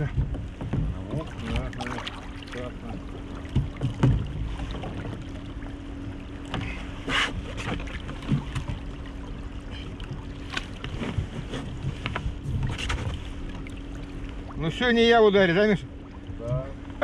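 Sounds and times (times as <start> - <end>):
water lapping against boat hull: 0.0 - 17.0.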